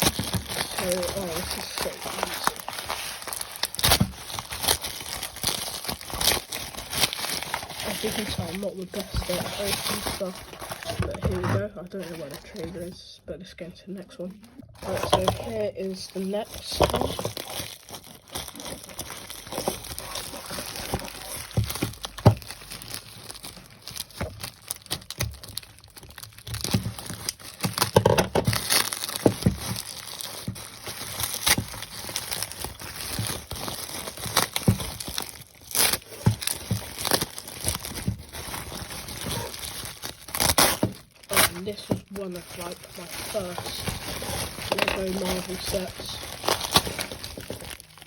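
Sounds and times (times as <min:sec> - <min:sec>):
packing wrap crinkling and tearing: 0:00.0 - 0:13.0, 0:14.5 - 0:48.0.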